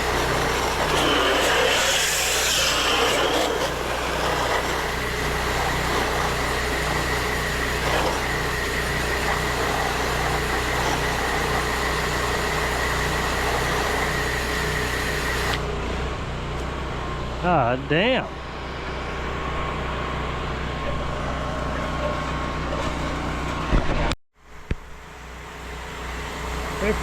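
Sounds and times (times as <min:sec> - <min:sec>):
small gas engine running: 0:00.0 - 0:23.8, 0:24.9 - 0:27.0.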